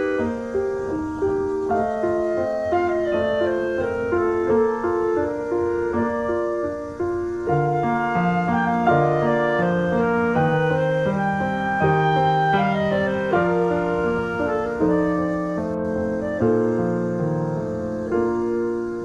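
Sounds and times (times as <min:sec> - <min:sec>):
piano bass notes: 0:00.0 - 0:19.0
piano melody: 0:00.0 - 0:19.0.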